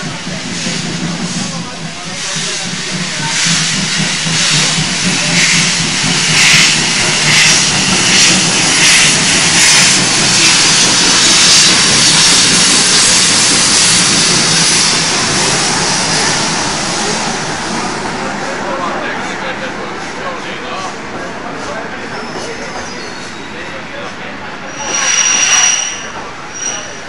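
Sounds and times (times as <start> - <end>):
steam locomotive steam hiss: 0.0 - 27.0.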